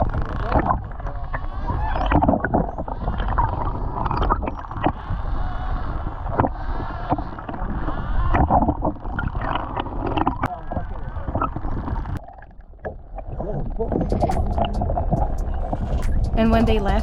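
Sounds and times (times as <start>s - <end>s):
wind noise: 0.0s - 12.2s, 12.8s - 17.0s.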